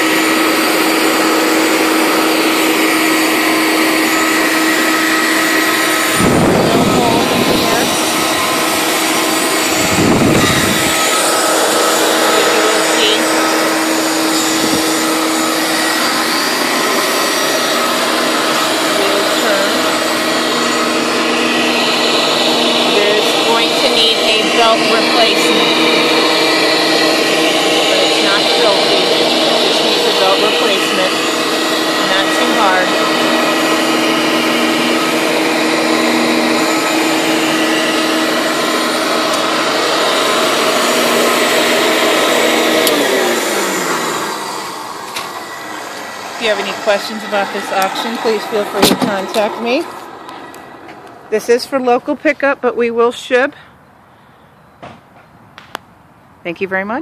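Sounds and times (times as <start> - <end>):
carpet cleaner motor running: 0.0 - 53.4.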